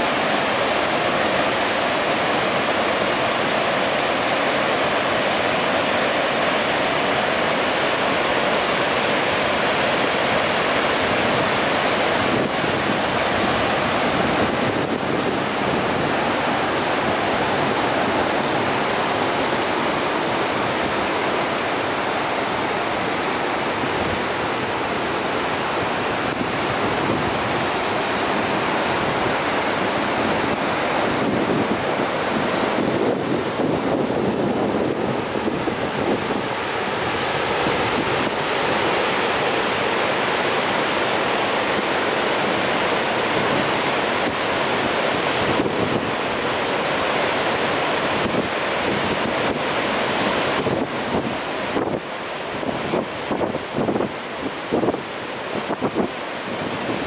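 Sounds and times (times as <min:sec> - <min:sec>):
whitewater rushing: 0:00.0 - 0:57.0.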